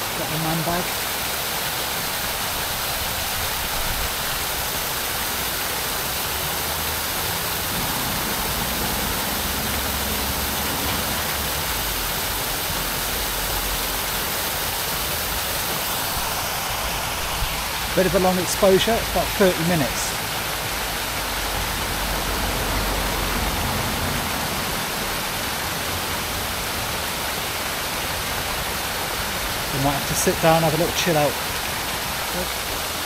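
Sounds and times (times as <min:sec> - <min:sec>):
waterfall rushing and splashing: 0:00.0 - 0:33.0.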